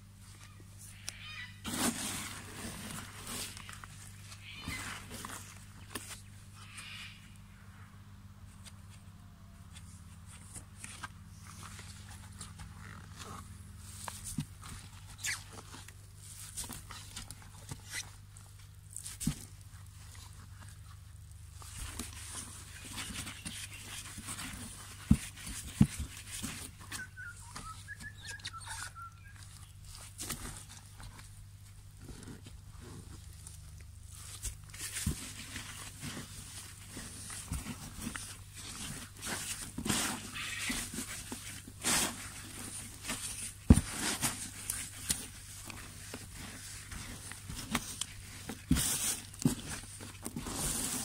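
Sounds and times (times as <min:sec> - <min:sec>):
soil rustling and scraping: 0:00.4 - 0:07.4, 0:09.8 - 0:51.0.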